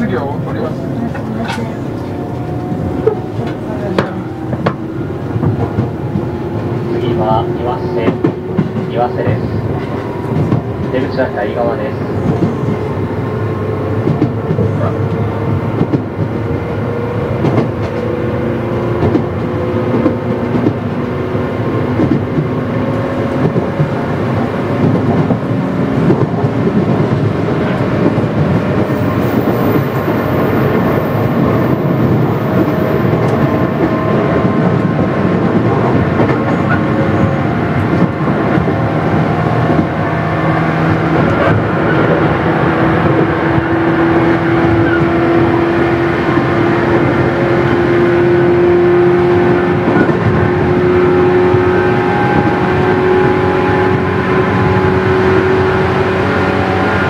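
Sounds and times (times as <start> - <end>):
rail joints clicking: 0.0 - 47.2
train wheel rumble: 0.0 - 57.0.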